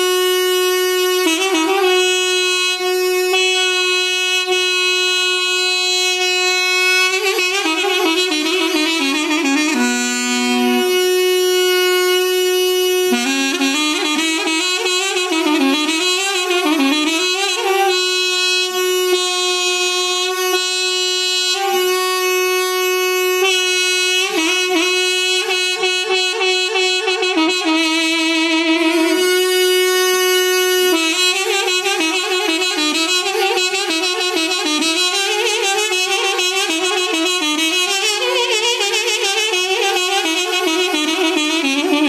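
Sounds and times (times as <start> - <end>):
held drone note: 0.0 - 42.0
wind instrument ornamented melody: 0.0 - 42.0.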